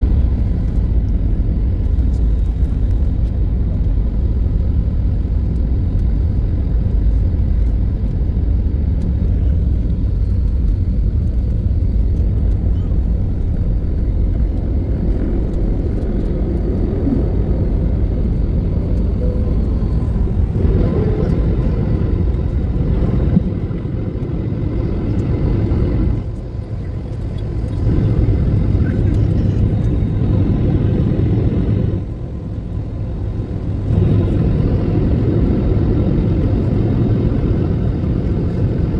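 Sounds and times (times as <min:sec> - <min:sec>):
faint jet whine: 0:00.0 - 0:38.9
jet airliner taking off: 0:00.1 - 0:38.9.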